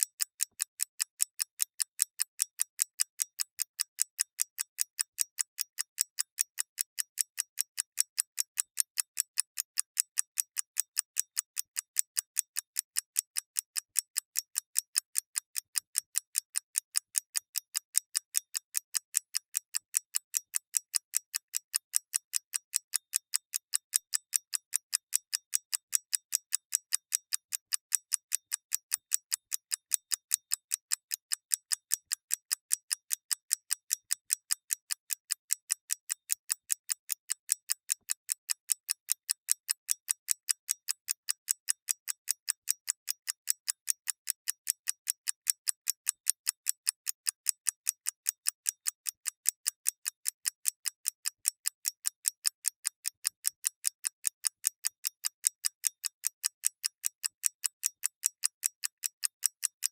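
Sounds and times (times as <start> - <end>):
clock ticking: 0.0 - 59.1.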